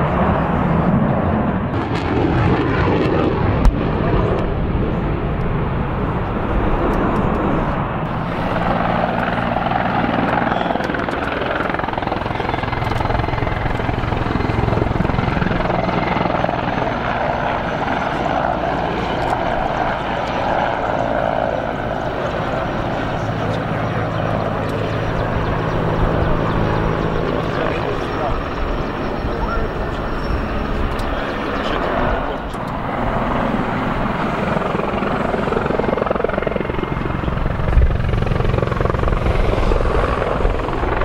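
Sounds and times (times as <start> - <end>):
jet fighter afterburner roar: 0.0 - 35.9
helicopter flying past: 0.0 - 41.0.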